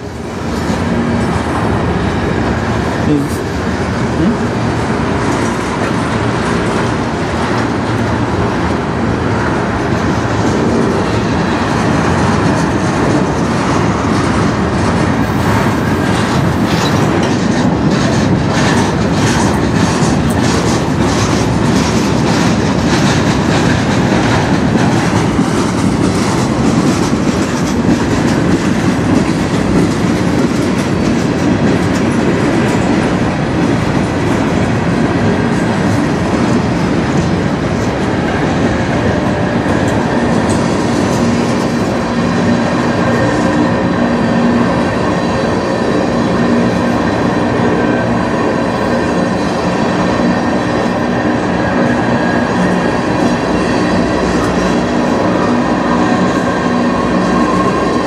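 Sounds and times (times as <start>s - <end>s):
steel wheels rumbling on rail: 0.0s - 58.0s
wheels clicking over rail joints: 4.5s - 58.0s.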